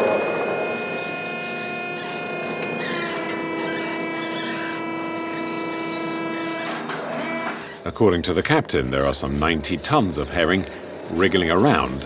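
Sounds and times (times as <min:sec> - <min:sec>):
boat engine and deck machinery: 0:00.0 - 0:12.0.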